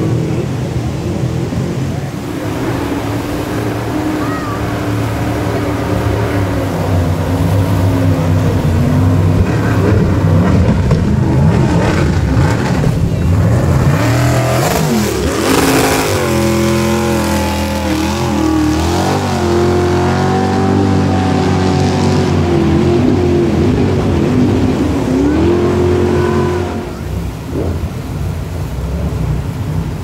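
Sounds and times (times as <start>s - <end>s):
jet boat engine running hard: 0.0s - 30.0s
river rapids rushing: 0.0s - 30.0s.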